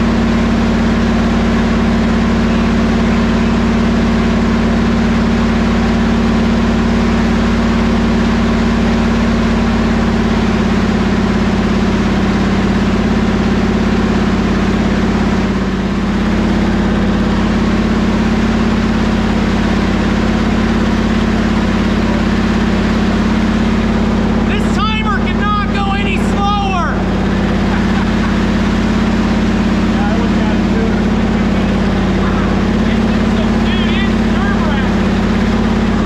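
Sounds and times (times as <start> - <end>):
car engine running steadily: 0.0 - 36.0.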